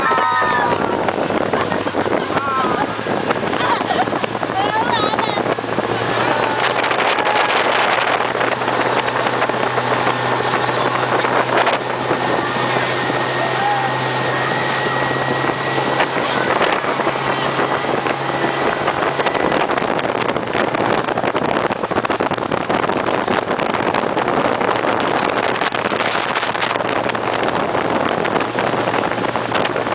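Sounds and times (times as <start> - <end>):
boat engine drone: 0.0 - 29.9
water churning along hull: 0.0 - 29.9
wind on microphone: 0.0 - 29.9.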